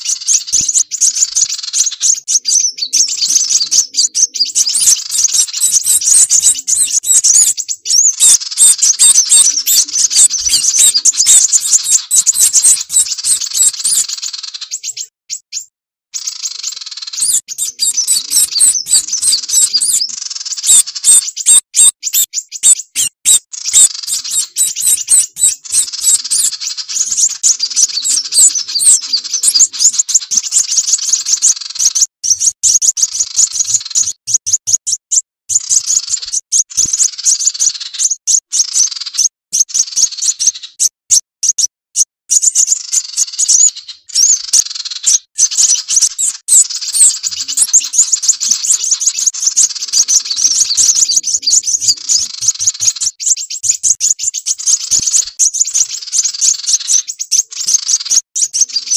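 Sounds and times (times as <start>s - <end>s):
high-pitched bird chips and trills: 0.0s - 58.9s.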